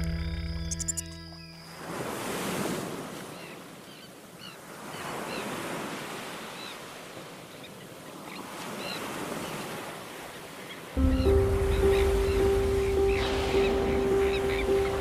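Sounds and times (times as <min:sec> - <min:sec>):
ocean waves breaking: 0:01.6 - 0:15.0.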